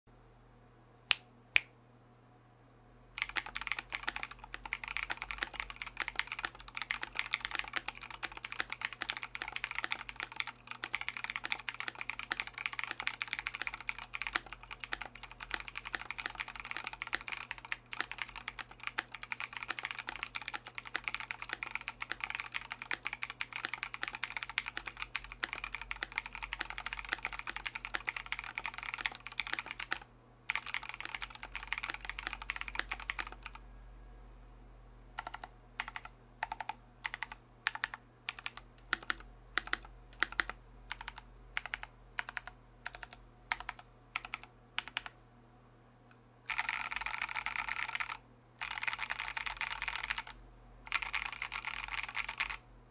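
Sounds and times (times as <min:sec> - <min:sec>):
mechanical keyboard typing: 0:03.2 - 0:33.6, 0:35.2 - 0:45.2, 0:46.5 - 0:52.6.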